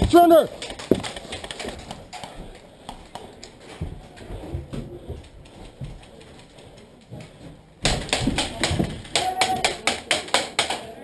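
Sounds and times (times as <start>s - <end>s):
footsteps: 0.0s - 10.8s.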